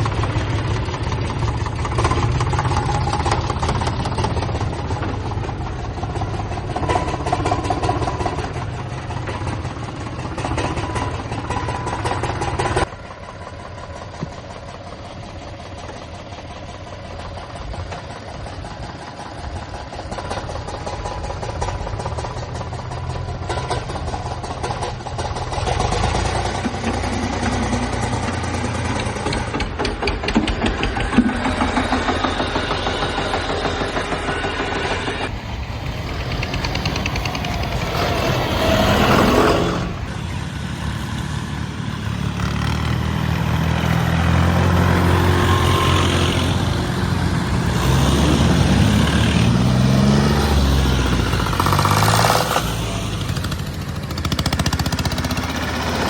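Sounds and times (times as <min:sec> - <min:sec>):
diesel tractor engines revving: 0:00.0 - 0:56.0.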